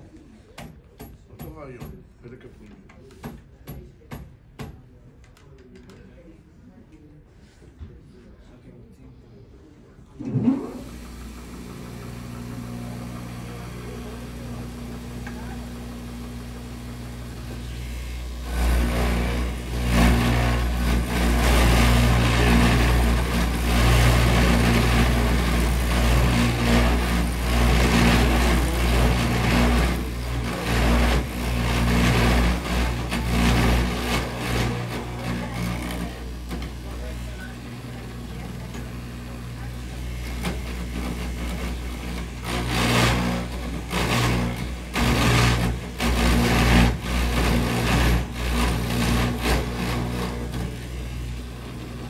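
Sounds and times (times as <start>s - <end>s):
copying machine motor hum: 10.2s - 52.0s
drill cutting into wood: 10.2s - 52.0s.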